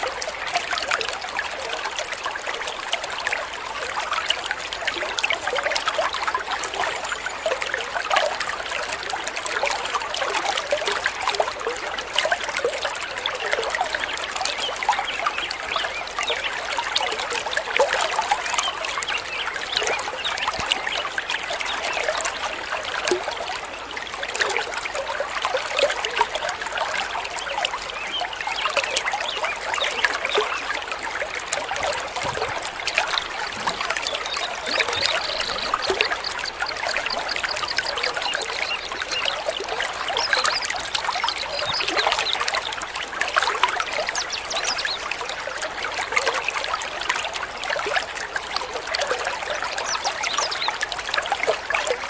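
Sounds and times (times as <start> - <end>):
stream trickling and babbling: 0.0 - 52.0.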